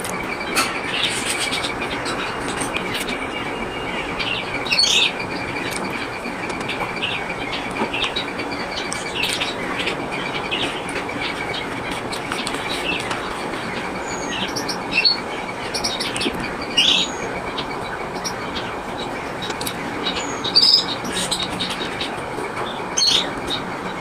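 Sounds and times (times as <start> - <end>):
finches chirping: 0.0 - 24.0.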